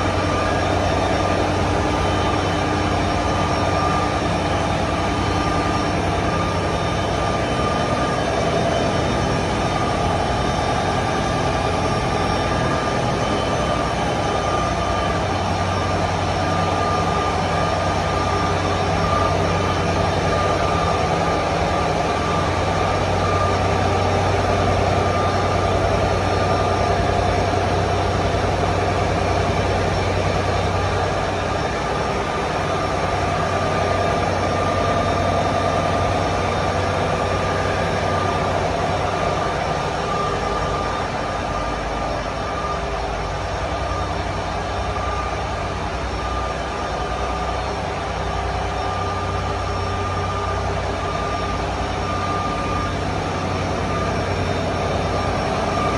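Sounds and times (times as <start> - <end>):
high whine: 0.0 - 55.9
marine diesel engines running: 0.0 - 55.9.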